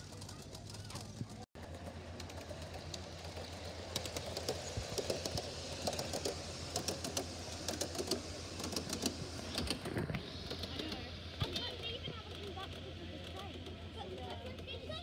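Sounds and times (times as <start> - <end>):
model train wheels clicking: 0.0 - 15.0.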